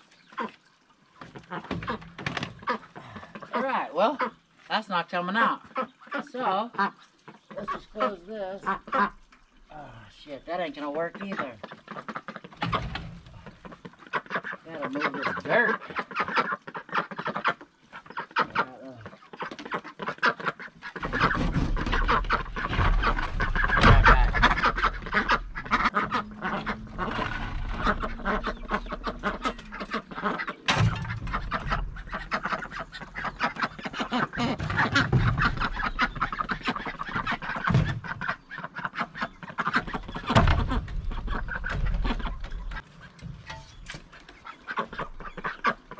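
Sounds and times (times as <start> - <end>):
ducks quacking: 0.2 - 45.9.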